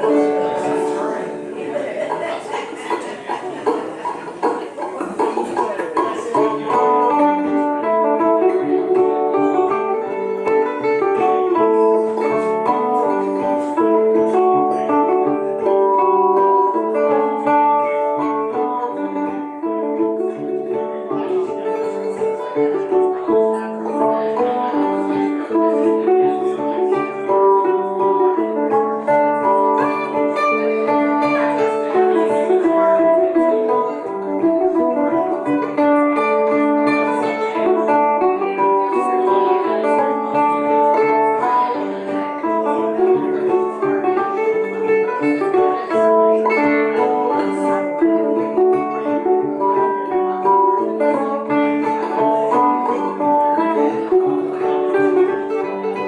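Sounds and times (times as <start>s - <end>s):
mandolin melody: 0.0s - 56.0s
plucked string accompaniment: 0.0s - 56.0s.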